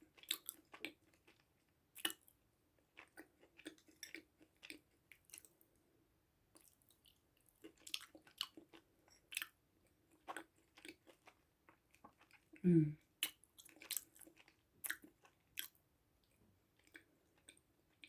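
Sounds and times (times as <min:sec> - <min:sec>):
chewing with mouth clicks: 0:00.0 - 0:05.6, 0:06.5 - 0:18.0.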